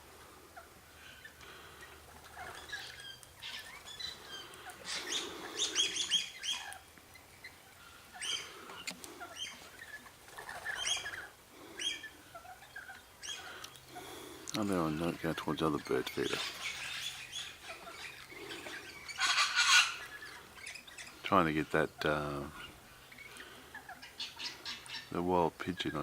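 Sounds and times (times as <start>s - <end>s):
parrots chirping: 1.0s - 25.2s.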